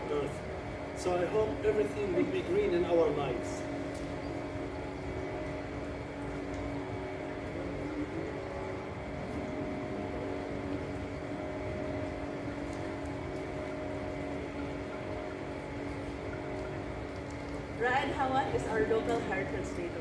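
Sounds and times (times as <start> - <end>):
mechanical hum with held tones: 0.0 - 20.0.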